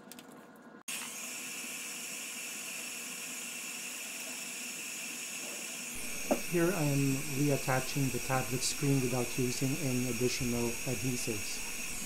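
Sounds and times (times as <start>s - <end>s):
hot air gun blowing: 0.9s - 12.0s.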